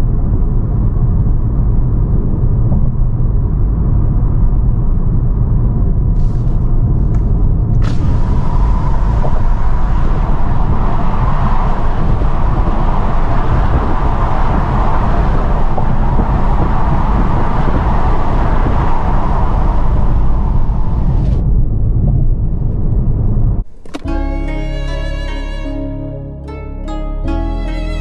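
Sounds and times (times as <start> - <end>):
wind and road noise in car: 0.0 - 24.8.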